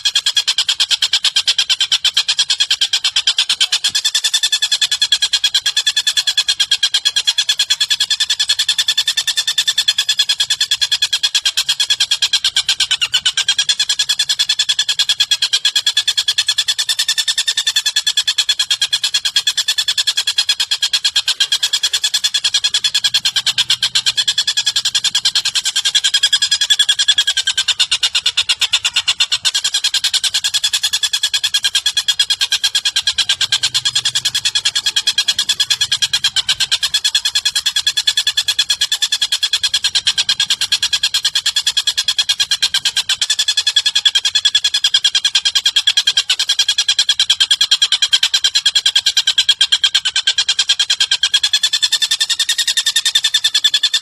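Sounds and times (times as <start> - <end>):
fast rattling bird trill: 0.0 - 54.0.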